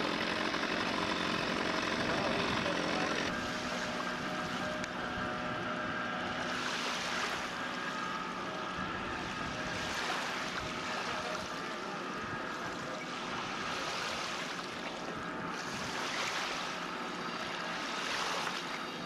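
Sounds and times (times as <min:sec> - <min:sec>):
water rushing along boat hull: 0:00.0 - 0:19.0.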